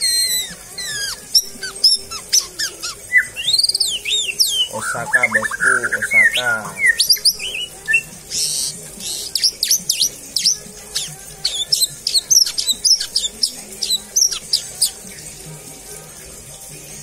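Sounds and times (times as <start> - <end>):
bird singing whistled notes: 0.0 - 15.3
harsh bird rasp: 0.0 - 15.4.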